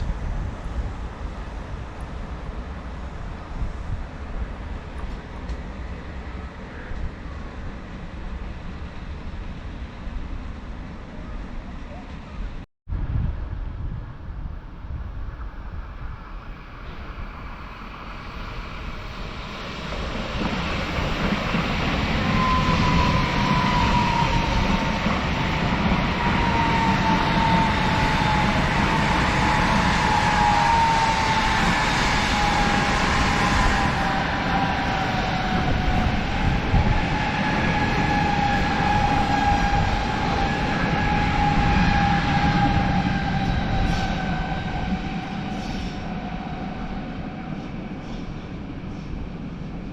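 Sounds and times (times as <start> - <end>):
train running on tracks: 0.0 - 12.6, 13.2 - 49.9.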